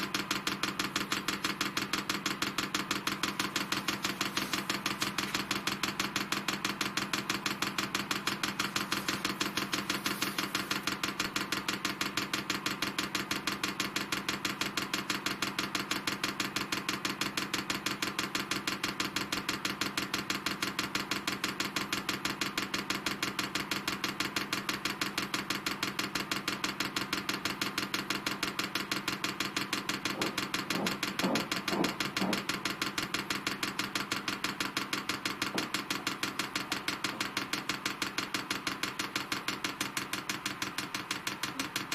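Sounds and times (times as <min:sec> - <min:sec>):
fuel pump ticking rapidly: 0:00.0 - 0:41.9.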